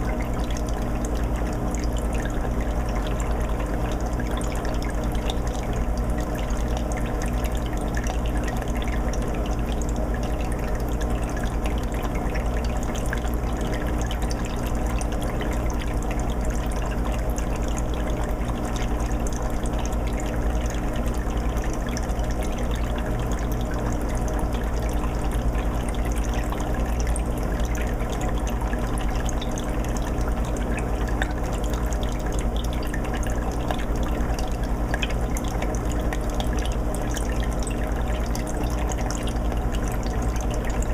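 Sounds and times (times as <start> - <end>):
low motor hum: 0.0 - 40.9
water trickling and splashing: 0.0 - 40.9.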